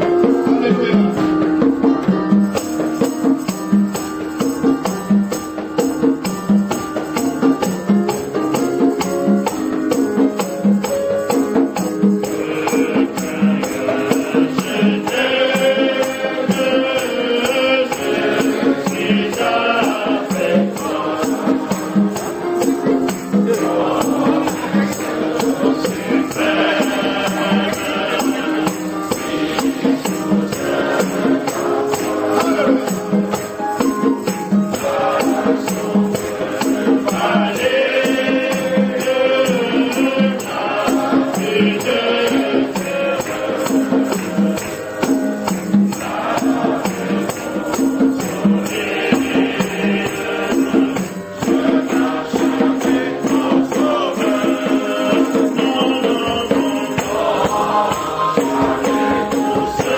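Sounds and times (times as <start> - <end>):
group of voices singing: 0.0 - 3.7, 7.1 - 59.9
tambourine or shaker ticks: 2.4 - 59.9.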